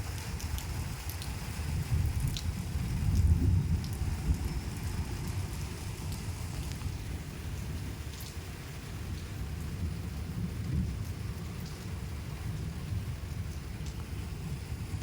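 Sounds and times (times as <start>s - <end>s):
rain falling: 0.0s - 15.0s
sharp ticks of raindrops: 0.0s - 15.0s
low rumble: 1.8s - 15.0s.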